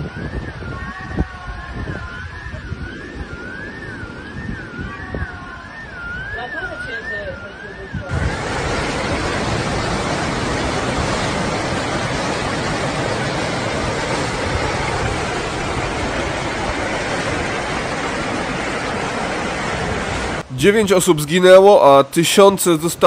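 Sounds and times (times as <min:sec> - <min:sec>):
floodwater rushing: 0:02.1 - 0:23.0.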